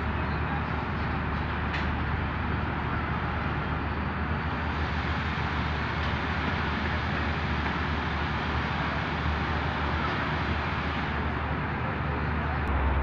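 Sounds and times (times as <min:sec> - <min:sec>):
crane diesel engine running: 0:00.0 - 0:13.0.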